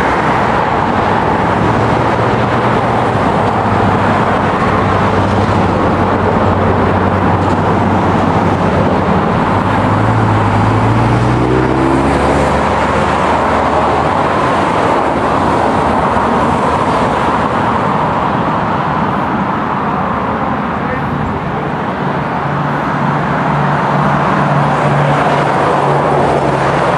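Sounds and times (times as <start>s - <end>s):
road traffic roar: 0.0s - 26.9s.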